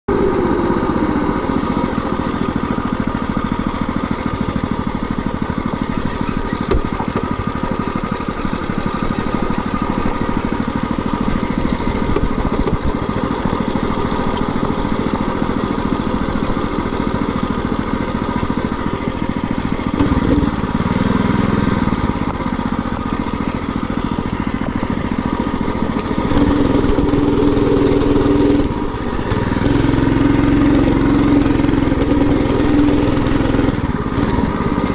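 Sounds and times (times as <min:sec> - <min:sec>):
minibike engine running: 0:00.1 - 0:34.9.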